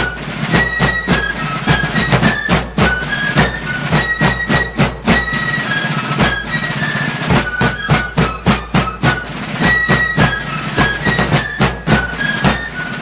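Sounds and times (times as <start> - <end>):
rapid drum strokes: 0.0 - 13.0.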